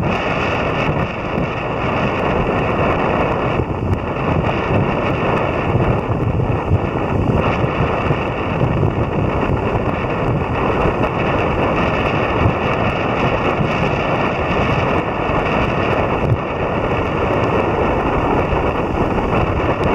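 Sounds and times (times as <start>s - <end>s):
choppy lake water washing: 0.0s - 19.9s
wind blowing over microphone: 0.0s - 19.9s.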